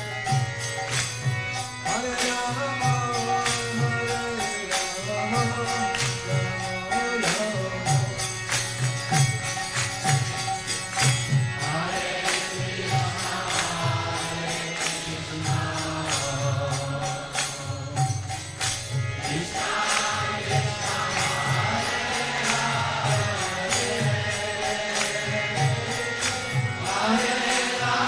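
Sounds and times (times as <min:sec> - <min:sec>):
sharp percussion strikes: 0:00.0 - 0:28.0
voices singing chant: 0:01.8 - 0:28.0.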